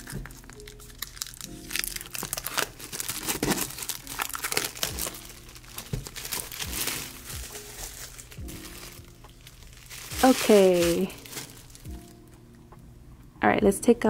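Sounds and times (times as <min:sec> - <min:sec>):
plastic shrink wrap crinkling: 0:00.0 - 0:12.4
background music: 0:00.0 - 0:14.0.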